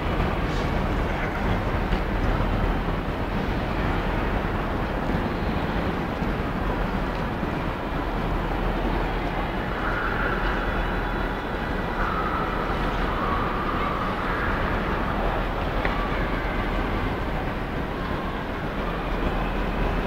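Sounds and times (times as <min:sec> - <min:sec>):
railway station hall rumble: 0:00.0 - 0:20.0.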